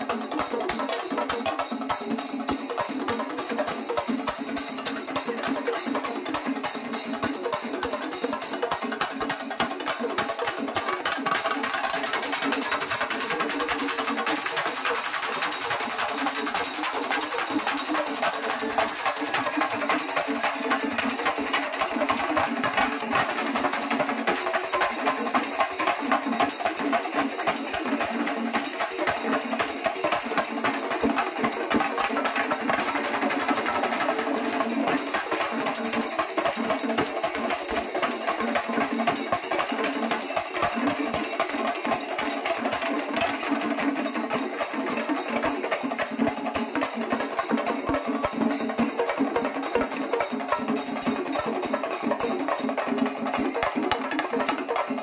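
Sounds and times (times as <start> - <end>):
drums playing fast rhythm: 0.0 - 55.0
hand cymbals: 0.0 - 55.0.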